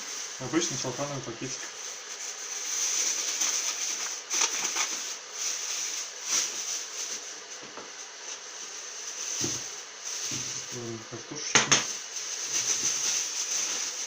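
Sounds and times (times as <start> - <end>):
plastic bag crinkling: 0.2 - 14.0.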